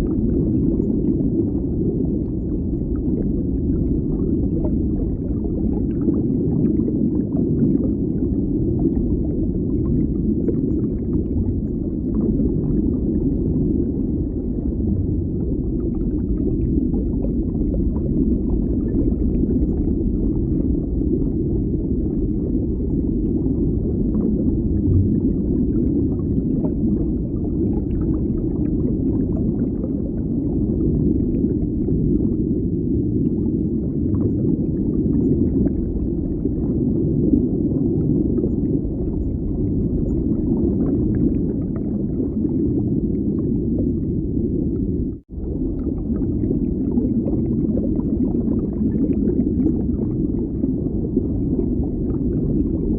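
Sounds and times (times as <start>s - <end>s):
muffled underwater rumble: 0.0s - 52.9s.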